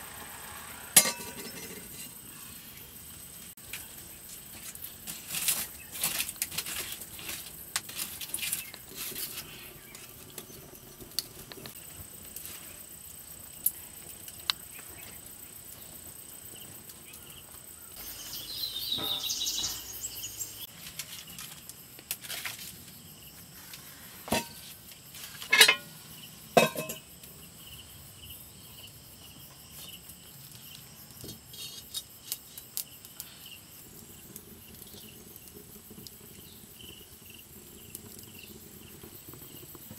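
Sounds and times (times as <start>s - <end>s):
wood fire crackling: 0.0s - 18.4s, 20.6s - 27.9s, 28.5s - 39.9s
faint insect drone: 0.0s - 39.9s.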